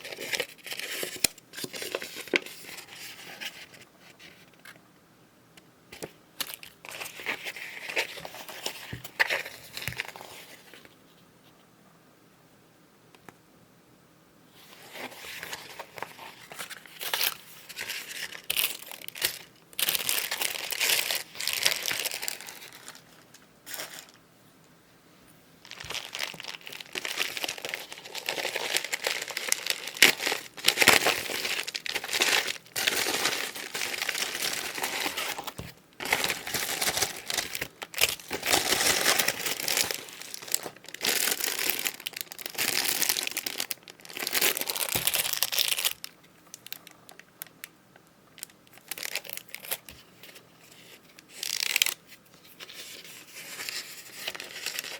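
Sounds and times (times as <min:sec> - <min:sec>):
packaging crinkling and rustling: 0:00.0 - 0:04.8, 0:06.0 - 0:11.0, 0:14.7 - 0:24.2, 0:25.6 - 0:47.7, 0:48.3 - 0:54.9.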